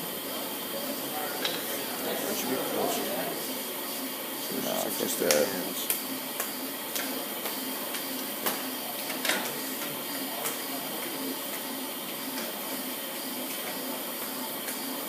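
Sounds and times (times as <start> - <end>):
workshop machine noise: 0.0 - 15.0.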